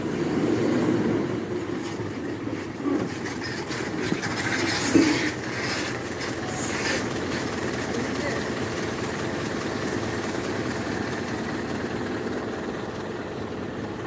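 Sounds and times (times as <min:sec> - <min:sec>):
train rumbling past: 0:00.0 - 0:13.3
wheels clicking over track: 0:00.0 - 0:14.0.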